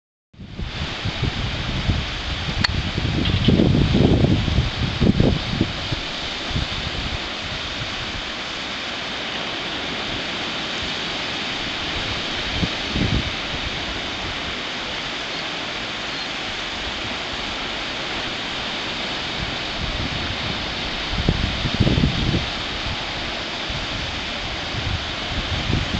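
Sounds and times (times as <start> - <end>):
surf breaking on a sandy beach: 0.4 - 25.9
wind buffeting the microphone: 0.4 - 25.9.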